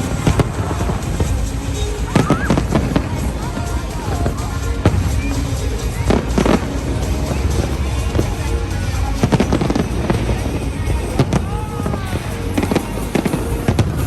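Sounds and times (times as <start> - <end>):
fireworks bangs and crackles: 0.0 - 14.0
low rumble: 0.0 - 14.0
music playing: 0.0 - 14.0.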